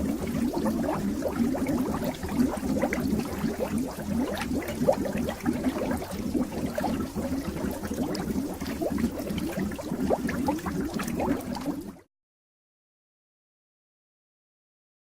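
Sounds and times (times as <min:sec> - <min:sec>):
water bubbling and gurgling: 0:00.0 - 0:12.1.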